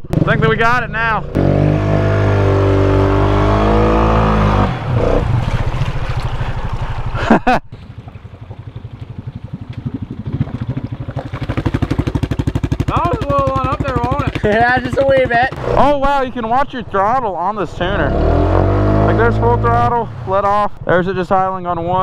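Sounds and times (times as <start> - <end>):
atv engine revving and idling: 0.0 - 16.2, 17.8 - 22.0.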